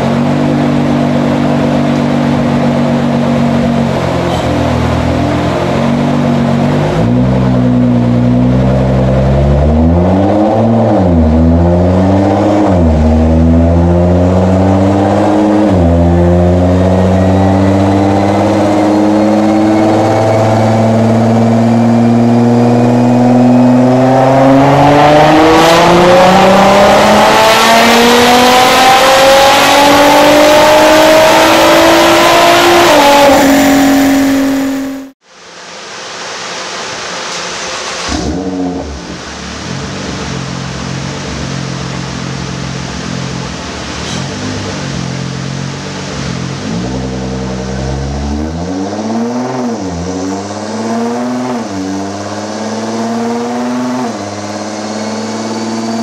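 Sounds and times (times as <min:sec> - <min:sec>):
car engine revving on dyno: 0:00.0 - 0:56.0.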